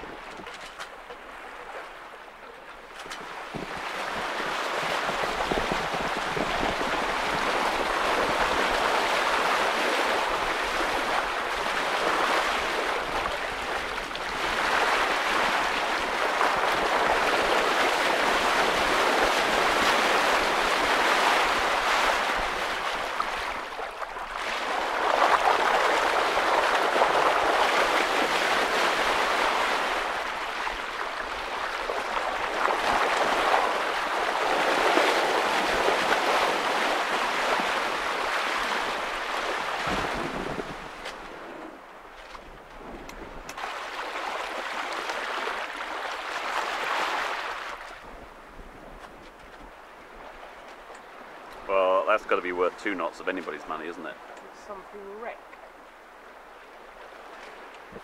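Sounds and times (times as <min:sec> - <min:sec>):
water rushing along hull: 0:00.0 - 0:58.0.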